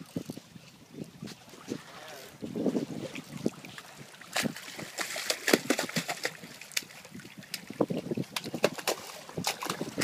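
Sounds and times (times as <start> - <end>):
stingray splashing water: 1.3 - 10.0.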